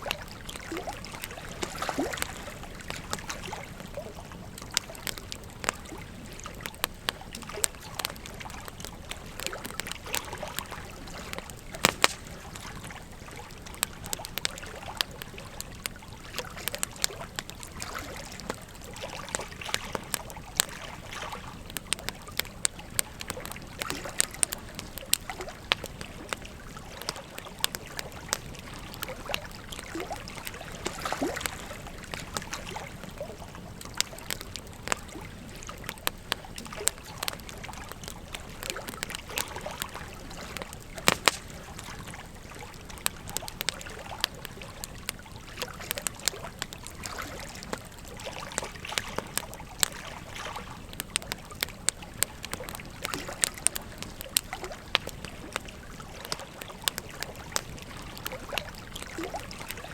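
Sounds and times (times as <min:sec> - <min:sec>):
flowing river water: 0:00.0 - 0:59.9
wood fire crackling: 0:00.0 - 0:59.9.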